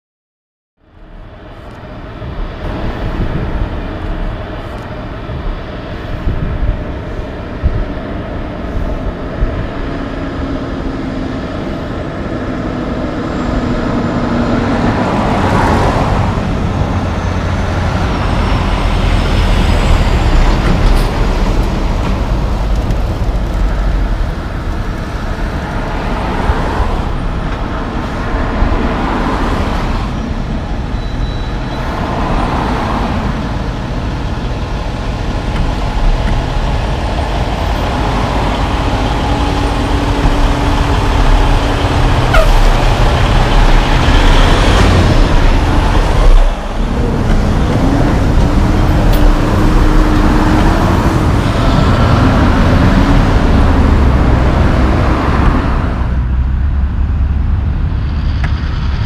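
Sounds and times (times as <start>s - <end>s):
heavy diesel truck engines: 0.8s - 59.0s
truck tyre noise: 0.8s - 59.0s.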